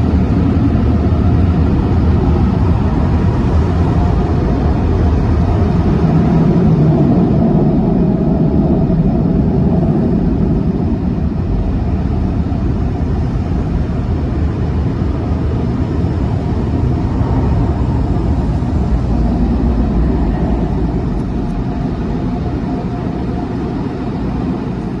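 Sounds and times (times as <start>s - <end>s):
dryer blowers roaring: 0.0s - 25.0s.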